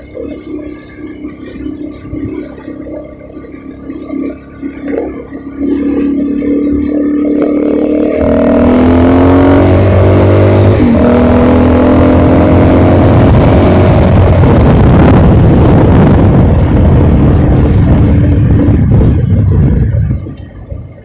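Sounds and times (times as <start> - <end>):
engine accelerating: 0.0 - 21.0
wind noise on microphone: 0.0 - 21.0.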